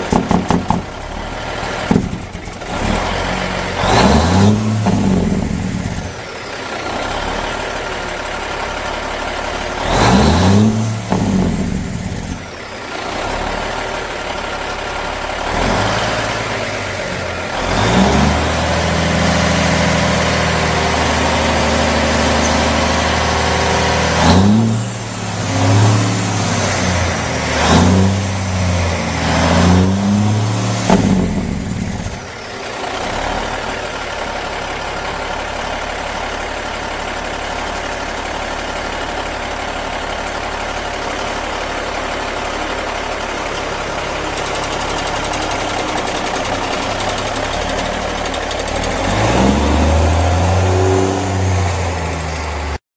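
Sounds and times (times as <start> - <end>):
truck diesel engine revving: 0.0 - 52.8.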